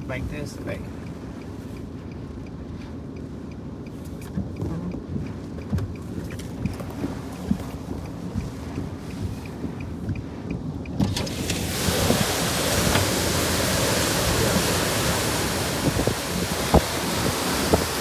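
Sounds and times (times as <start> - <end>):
storm wind gusting against car: 0.0 - 18.0.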